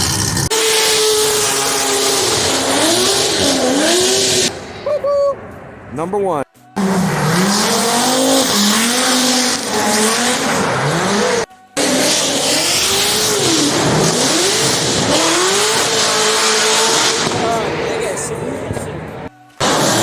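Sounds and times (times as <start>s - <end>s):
car engine revving: 0.0s - 6.1s, 6.8s - 20.0s.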